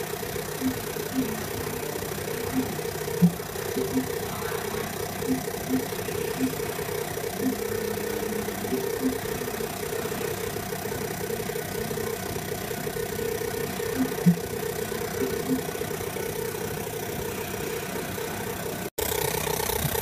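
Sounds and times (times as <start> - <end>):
rasping buzz from speakers: 0.0 - 20.0.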